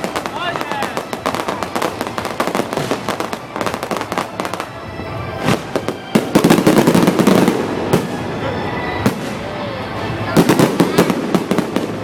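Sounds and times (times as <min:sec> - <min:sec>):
fireworks crackling bangs: 0:00.0 - 0:12.0.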